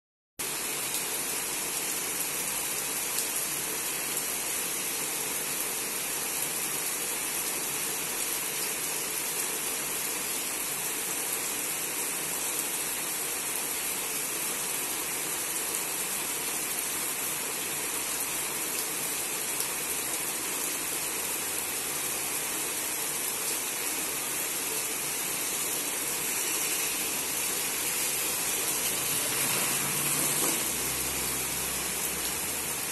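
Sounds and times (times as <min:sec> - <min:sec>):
heavy rain on foliage: 0:00.4 - 0:32.9.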